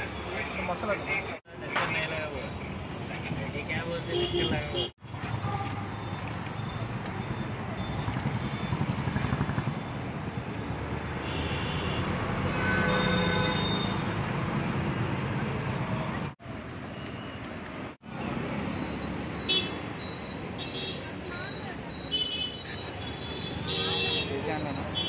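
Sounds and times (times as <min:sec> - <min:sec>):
roadside traffic rumble: 0:00.0 - 0:25.0.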